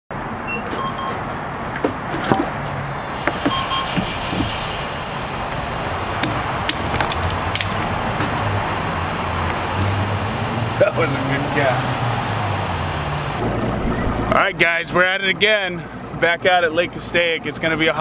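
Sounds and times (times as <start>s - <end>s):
road traffic hum: 0.1s - 17.4s.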